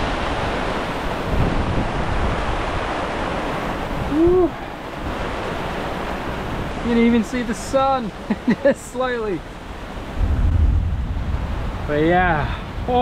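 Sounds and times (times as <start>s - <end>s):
wind and heavy rain rushing: 0.0s - 13.0s
wind gusts buffeting microphone: 0.0s - 13.0s.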